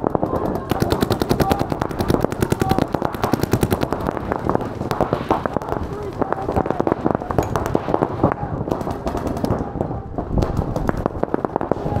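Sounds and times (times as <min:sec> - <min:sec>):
paintball markers firing: 0:00.0 - 0:11.8.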